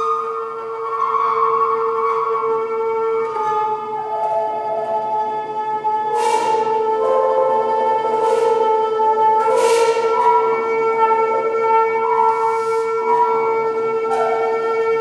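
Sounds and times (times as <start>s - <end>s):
wind instruments holding long tones: 0.0s - 15.0s.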